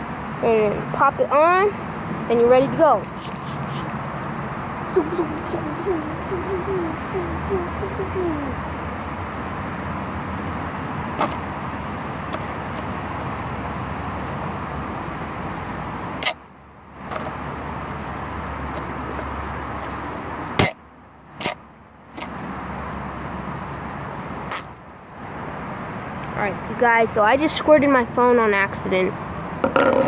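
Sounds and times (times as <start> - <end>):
outdoor background hum: 0.0 - 30.0.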